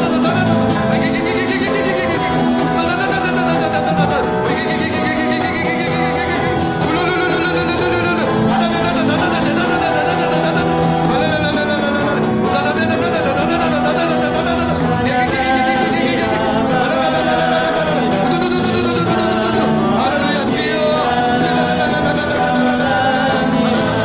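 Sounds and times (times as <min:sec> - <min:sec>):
congregation praying aloud: 0:00.0 - 0:24.0
worship music chords: 0:00.0 - 0:24.0.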